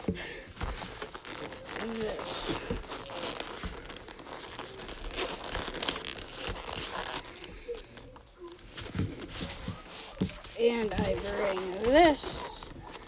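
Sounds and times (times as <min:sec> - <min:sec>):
gloves rustling and scuffing: 0:00.0 - 0:13.0.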